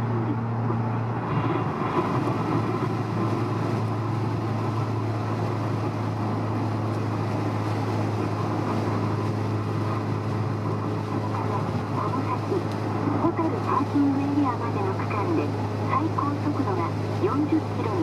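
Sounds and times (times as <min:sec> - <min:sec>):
car engine drone in cabin: 0:00.0 - 0:18.0
tyre road noise: 0:00.0 - 0:18.0.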